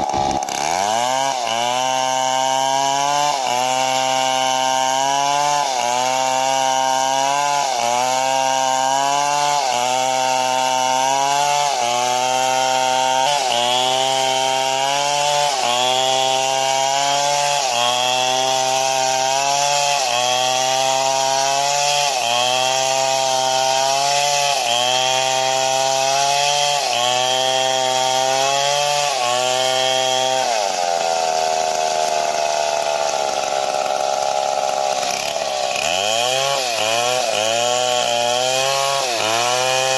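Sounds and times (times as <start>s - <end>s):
chainsaw cutting: 0.0s - 39.9s.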